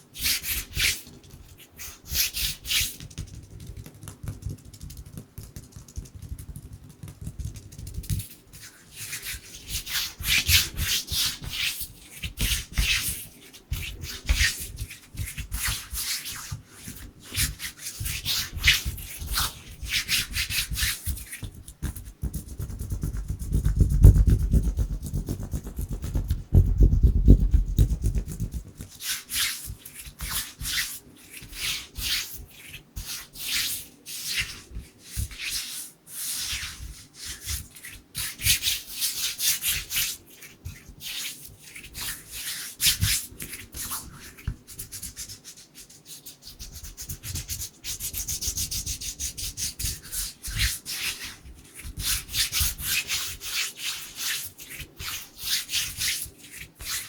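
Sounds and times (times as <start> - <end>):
hands rubbing together: 0.2 - 57.0.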